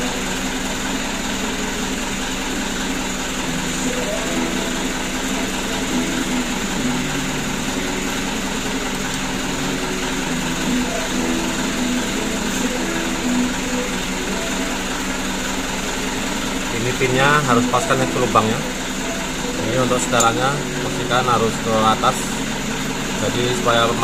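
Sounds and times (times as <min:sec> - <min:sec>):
steady machine drone: 0:00.0 - 0:24.0.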